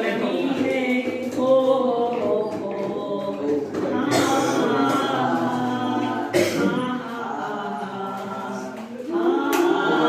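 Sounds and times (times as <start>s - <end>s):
group singing unaccompanied: 0.0s - 10.0s
woman singing lead: 0.0s - 10.0s.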